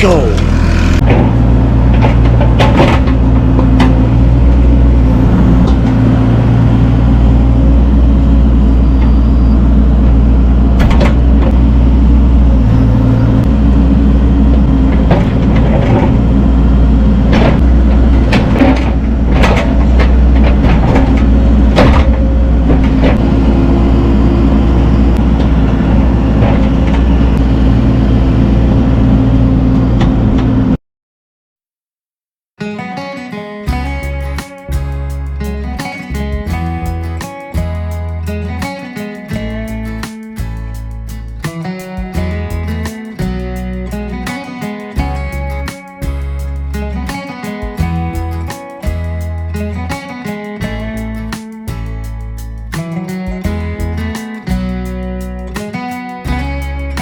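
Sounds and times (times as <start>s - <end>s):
diesel excavator engine running: 0.0s - 30.8s, 33.7s - 57.0s.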